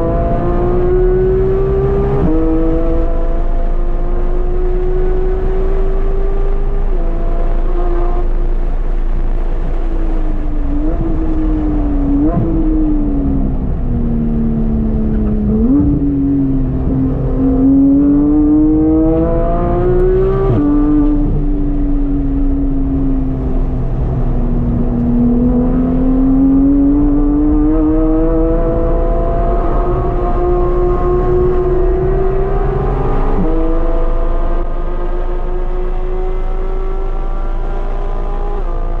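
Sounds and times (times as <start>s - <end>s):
sports car engine revving: 0.0s - 39.0s.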